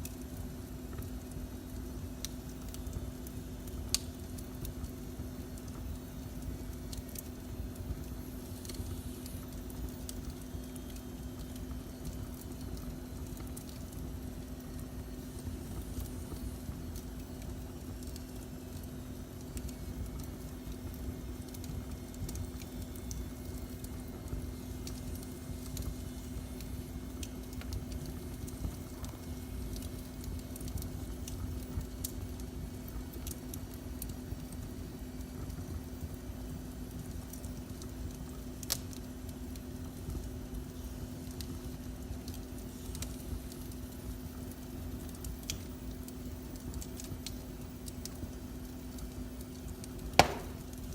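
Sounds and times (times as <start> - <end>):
constant low hum: 0.0 - 50.9
fire pops and crackles: 0.0 - 50.9
low rumble of fire: 0.0 - 50.9.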